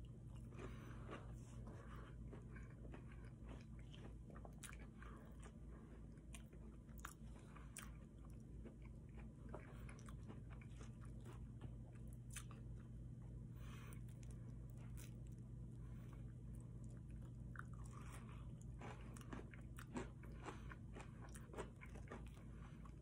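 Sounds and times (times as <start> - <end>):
person chewing food: 0.0 - 23.0
steady low hum: 0.0 - 23.0.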